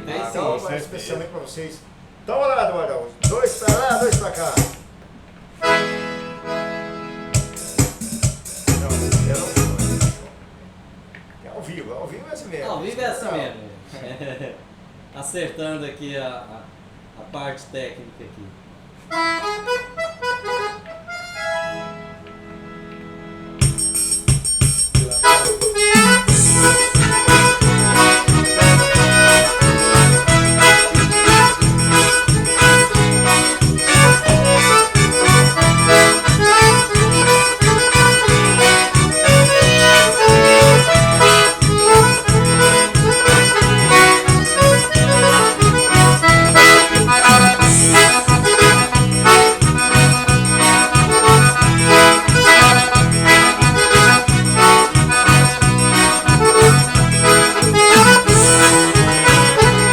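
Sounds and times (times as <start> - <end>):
accordion melody: 0.0 - 1.0, 3.2 - 5.0, 5.6 - 10.4, 19.0 - 59.9
keyboard accompaniment: 0.0 - 1.0, 3.2 - 11.1, 19.0 - 59.9.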